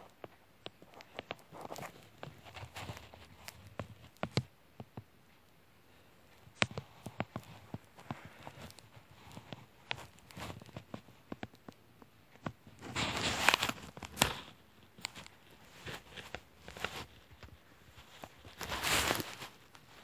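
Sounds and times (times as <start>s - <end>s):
rustling: 0.0s - 20.0s.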